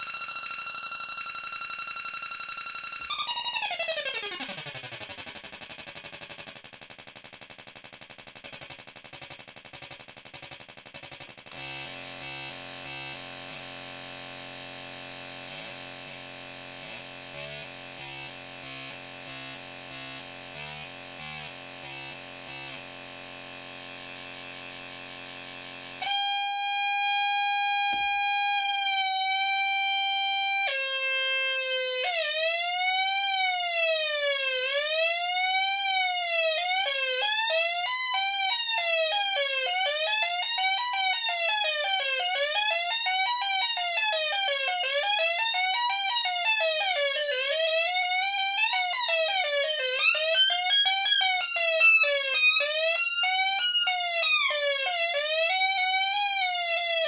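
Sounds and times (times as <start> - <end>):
buzzy synth tone: 0.0 - 56.0.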